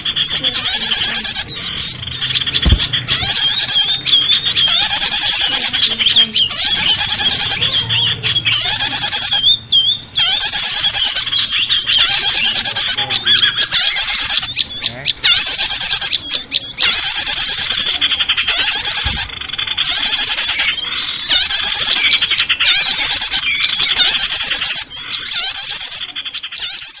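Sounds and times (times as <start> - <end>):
small birds chirping and squeaking: 0.0 - 27.0.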